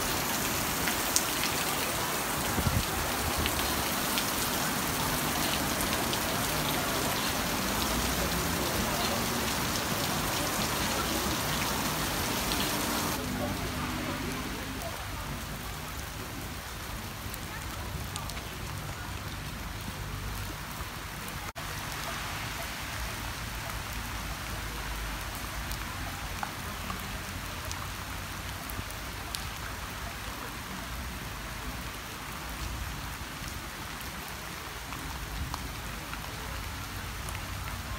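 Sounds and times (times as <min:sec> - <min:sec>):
rain on grass and pavement: 0:00.0 - 0:37.9.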